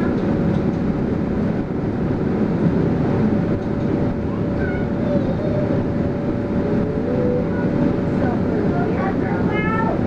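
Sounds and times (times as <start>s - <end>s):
bus drivetrain running: 0.0s - 10.0s
constant whine: 0.0s - 10.0s
tyres on the road: 0.0s - 10.0s.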